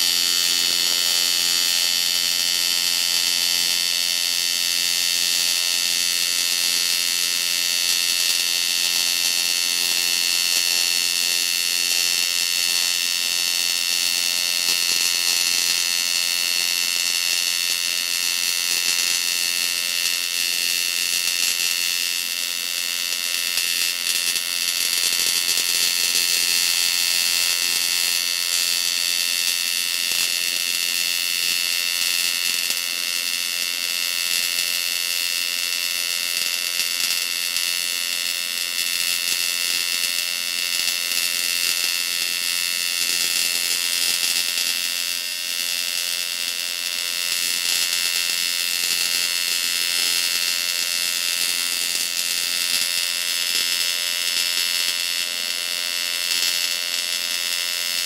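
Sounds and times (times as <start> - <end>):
welding arc buzzing hiss: 0.0 - 58.0.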